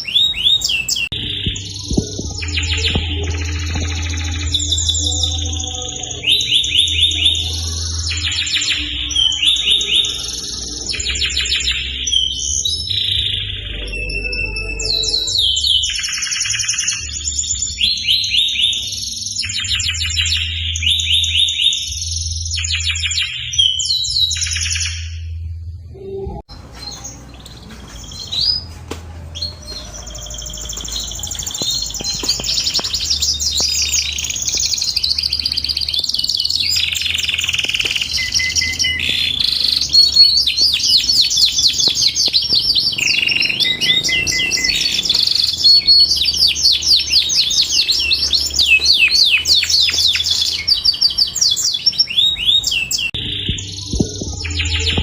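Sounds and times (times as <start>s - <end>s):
canary singing trills: 0.0s - 25.4s, 26.0s - 55.0s.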